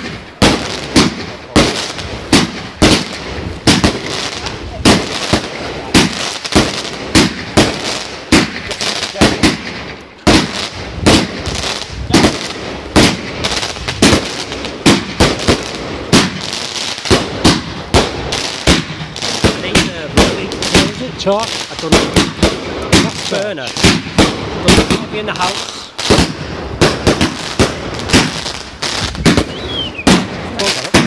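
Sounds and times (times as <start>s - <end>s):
firework bangs: 0.0s - 31.0s
firework crackling: 0.0s - 31.0s.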